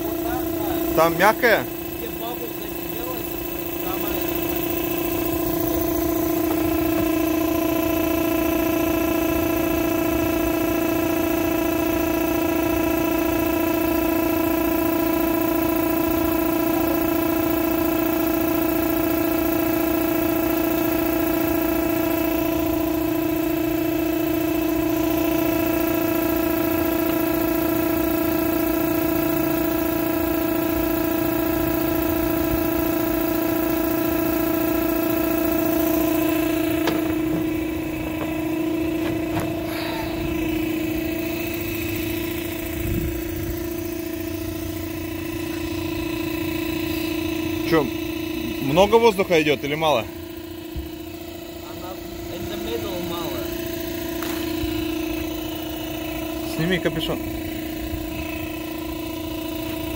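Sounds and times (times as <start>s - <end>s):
electric air pump humming: 0.0s - 59.9s.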